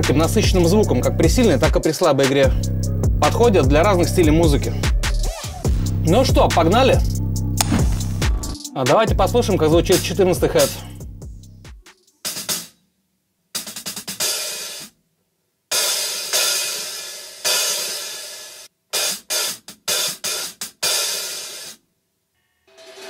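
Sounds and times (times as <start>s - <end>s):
hi-hat played with drumsticks: 0.0s - 12.8s, 13.6s - 14.9s, 15.7s - 21.8s.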